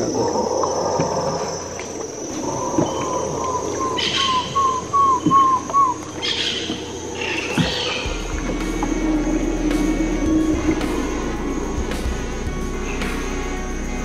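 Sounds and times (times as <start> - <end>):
high insect drone: 0.0 - 14.0
bird whistling rising notes: 2.4 - 14.0.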